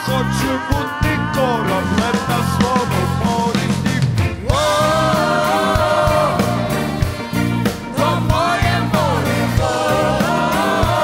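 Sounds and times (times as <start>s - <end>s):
live rock band: 0.0s - 11.0s
voices singing held notes: 0.0s - 11.0s.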